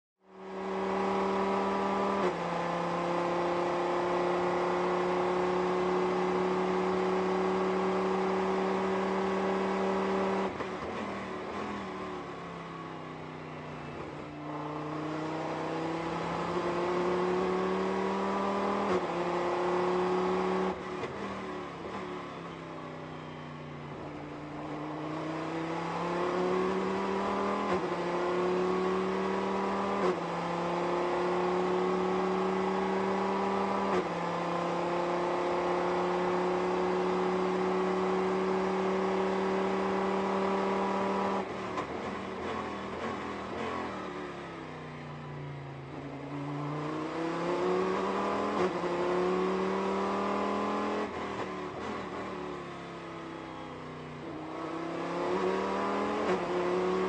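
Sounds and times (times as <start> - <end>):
race car engine at full throttle: 0.2 - 57.0.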